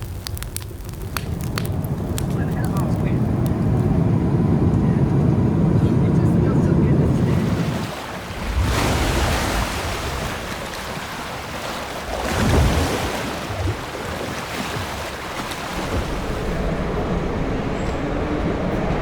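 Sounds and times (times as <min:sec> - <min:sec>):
steady rushing noise: 0:00.0 - 0:13.9, 0:15.1 - 0:19.0.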